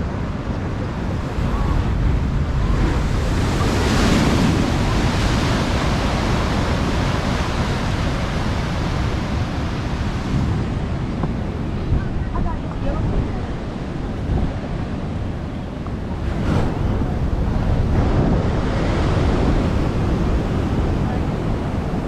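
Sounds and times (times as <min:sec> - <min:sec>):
ocean surf breaking: 0:00.0 - 0:22.0
wind rumbling on microphone: 0:00.0 - 0:22.0.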